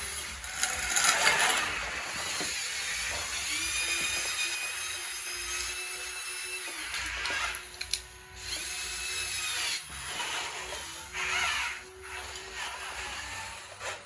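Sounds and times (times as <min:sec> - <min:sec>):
high electric motor whine: 0:00.0 - 0:14.0.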